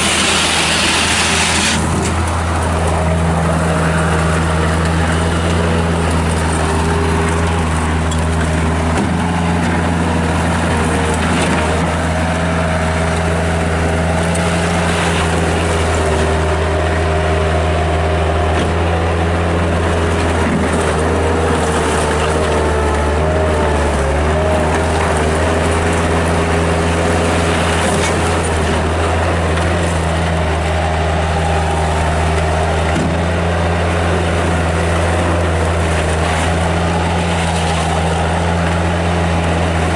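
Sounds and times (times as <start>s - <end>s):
loader diesel engine running: 0.0s - 39.9s.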